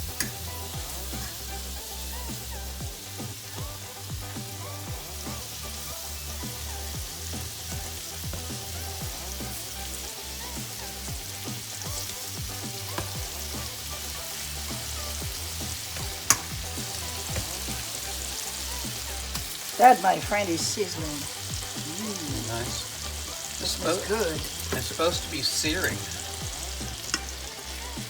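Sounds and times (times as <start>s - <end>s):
background music: 0.0s - 28.0s
chicken sizzling in butter: 0.0s - 28.0s.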